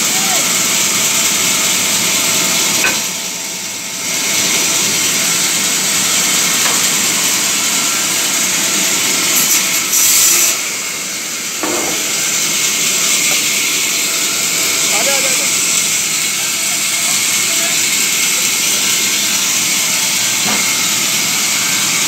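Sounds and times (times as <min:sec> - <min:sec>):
band saw cutting timber: 0:00.0 - 0:22.0.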